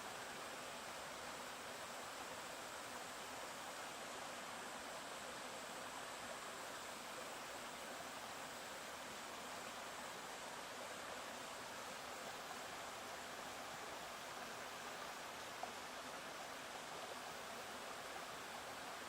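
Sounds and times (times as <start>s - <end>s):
stream water running: 0.0s - 19.0s.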